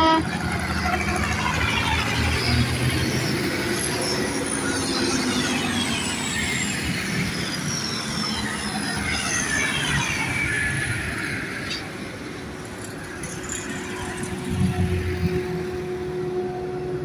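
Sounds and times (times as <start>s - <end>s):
high engine whine: 0.0s - 17.0s.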